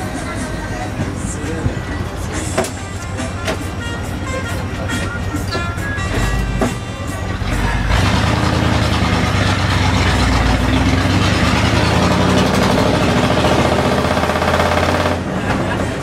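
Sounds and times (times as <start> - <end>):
road and body noise: 0.0 - 16.0
van engine running: 0.0 - 16.0.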